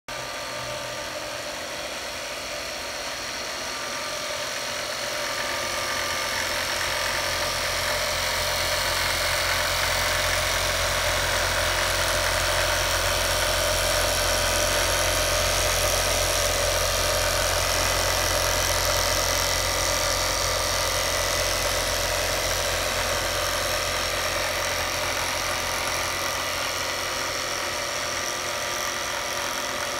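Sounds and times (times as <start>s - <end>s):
industrial sewing machine running: 0.1s - 29.9s.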